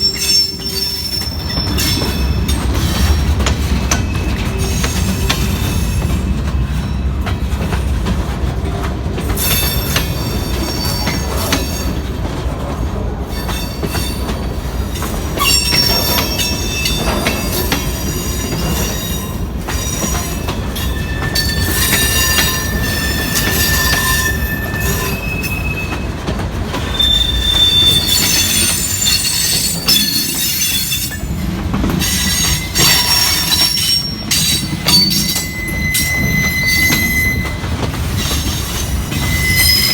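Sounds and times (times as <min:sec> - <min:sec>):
steel wheel squeal: 0:00.0 - 0:07.0, 0:09.4 - 0:12.0, 0:15.4 - 0:26.1, 0:26.8 - 0:31.4, 0:32.0 - 0:39.9
train wheels rumbling on rail: 0:00.0 - 0:39.9.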